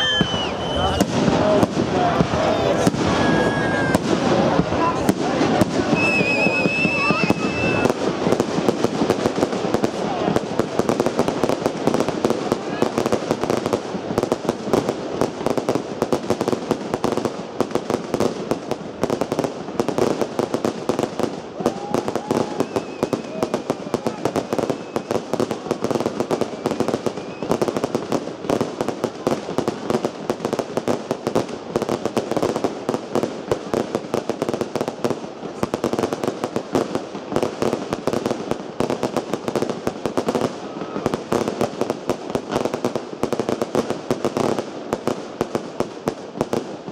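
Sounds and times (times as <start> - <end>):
fireworks bangs and crackles: 0.0 - 46.9.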